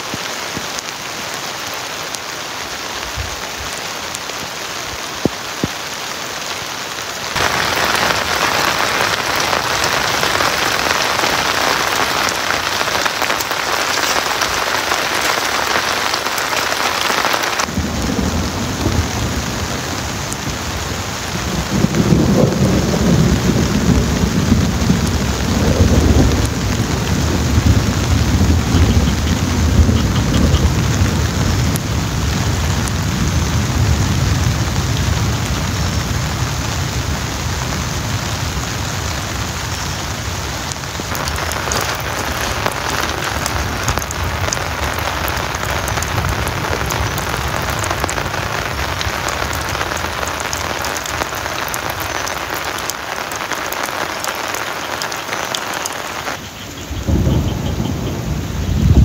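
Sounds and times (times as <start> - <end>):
heavy rain hissing: 0.0 - 59.0
rain pattering on a tarp: 0.0 - 59.0
thunder rumbling: 7.3 - 59.0.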